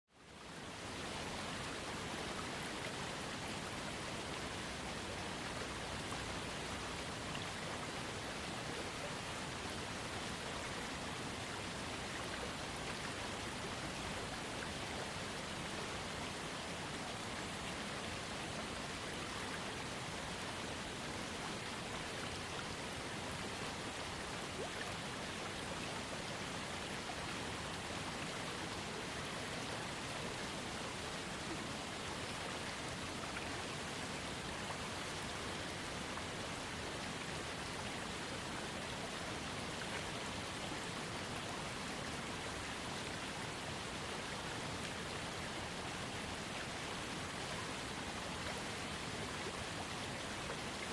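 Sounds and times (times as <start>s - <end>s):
trickling creek: 0.1s - 50.9s.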